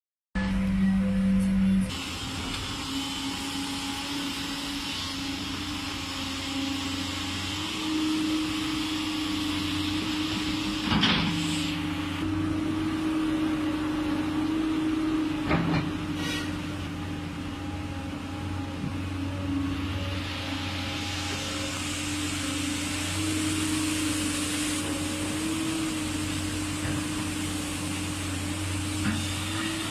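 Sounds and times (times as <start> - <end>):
excavator diesel engine running: 0.4 - 29.9.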